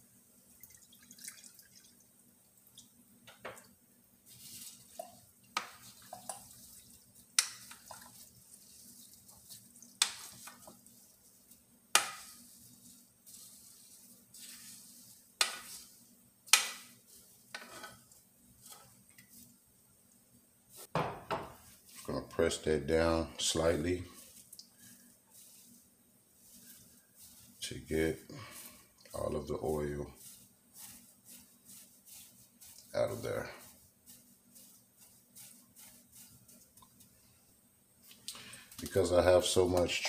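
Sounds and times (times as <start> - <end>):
soft squelching: 4.3 - 20.9, 21.6 - 40.0.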